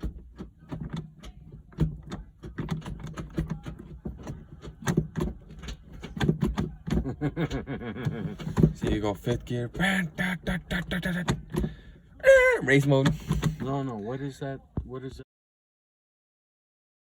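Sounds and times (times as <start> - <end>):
gear shifter clicks and clunks: 0.0 - 14.2.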